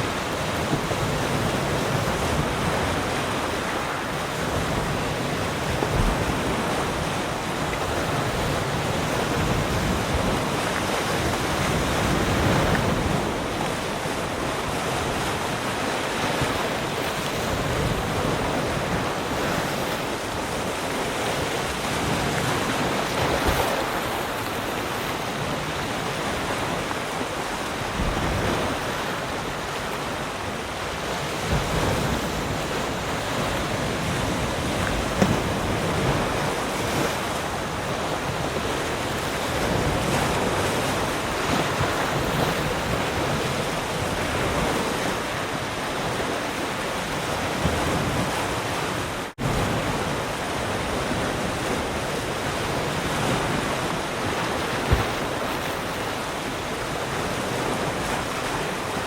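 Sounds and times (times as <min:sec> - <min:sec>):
waves breaking on shore: 0:00.0 - 0:59.0
wind: 0:00.0 - 0:59.0.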